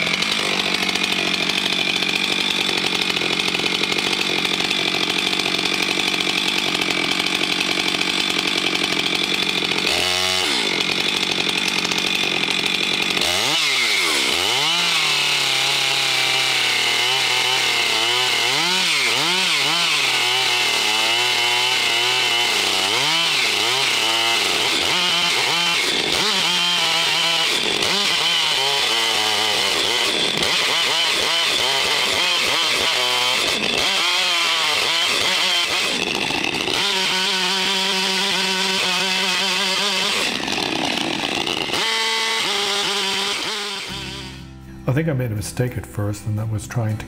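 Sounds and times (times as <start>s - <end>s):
chainsaw cutting log: 0.0s - 44.7s.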